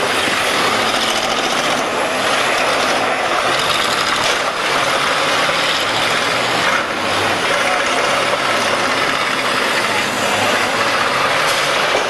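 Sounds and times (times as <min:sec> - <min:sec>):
car engines running hard: 0:00.0 - 0:12.0.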